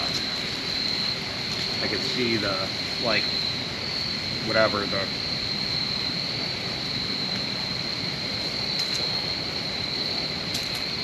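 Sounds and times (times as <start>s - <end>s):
high trilling insect chorus: 0.0s - 11.0s
low rushing background noise: 0.0s - 11.0s.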